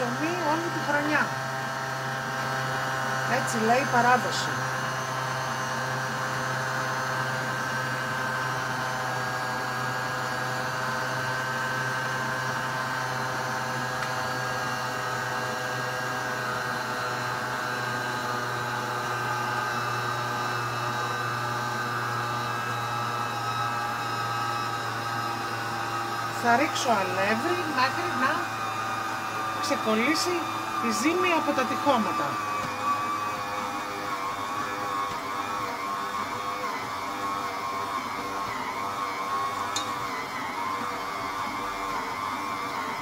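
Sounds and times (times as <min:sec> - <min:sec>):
stand mixer motor humming: 0:00.0 - 0:43.0.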